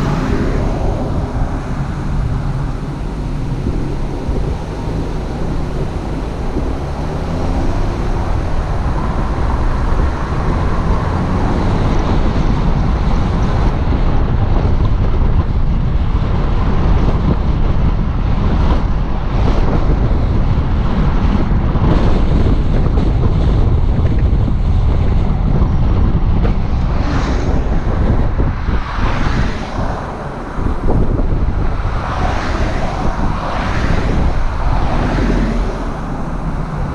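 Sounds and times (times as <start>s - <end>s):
road noise: 0.0s - 36.9s
wind rush from moving car: 0.0s - 36.9s.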